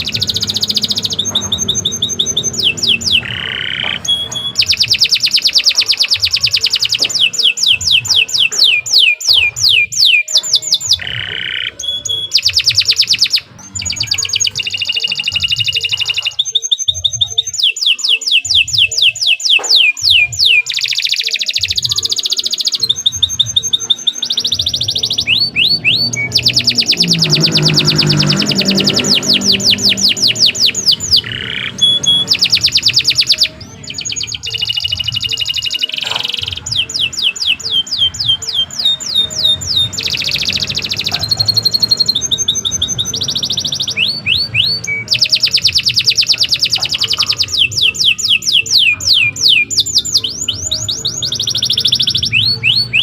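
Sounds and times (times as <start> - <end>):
canary singing: 0.0 - 53.0.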